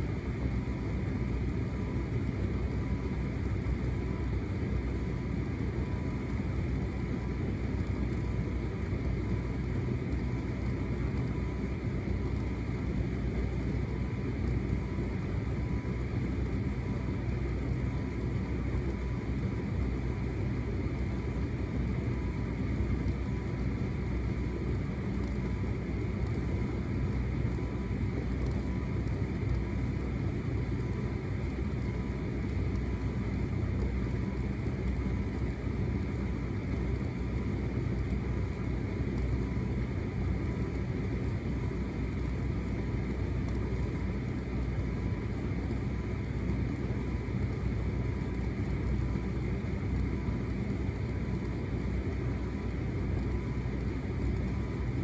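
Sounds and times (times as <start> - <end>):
faint steady whine: 0.0 - 55.0
tumble dryer humming and rumbling: 0.0 - 55.0.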